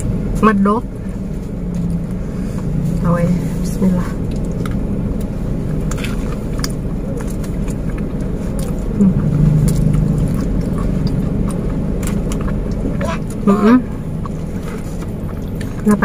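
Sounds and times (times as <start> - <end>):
car interior rumble: 0.0 - 16.0
closed-mouth hum: 0.0 - 16.0
chewing with crunches: 1.0 - 16.0.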